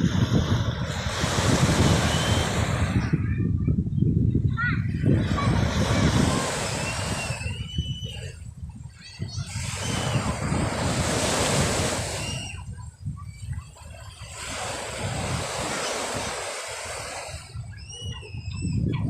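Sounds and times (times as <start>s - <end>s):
sea waves washing ashore: 0.0s - 3.5s, 4.6s - 18.6s
wind rumbling on microphone: 0.0s - 19.0s.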